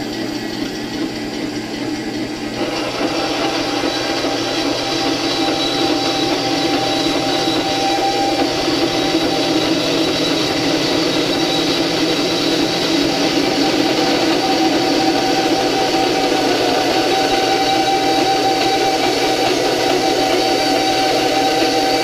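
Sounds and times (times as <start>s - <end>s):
bandsaw cutting metal tubing: 0.0s - 22.0s.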